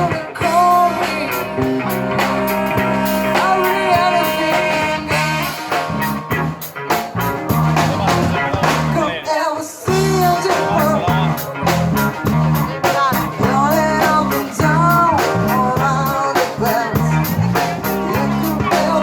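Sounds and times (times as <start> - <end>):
person singing: 0.0 - 5.8, 8.0 - 11.8, 12.6 - 19.0
rock band playing: 0.0 - 19.0.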